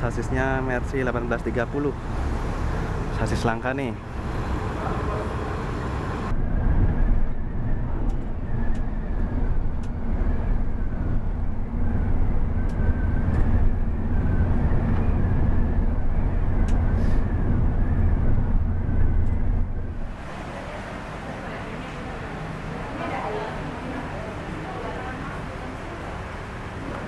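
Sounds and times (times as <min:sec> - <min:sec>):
coach engine and road rumble: 0:00.0 - 0:27.0.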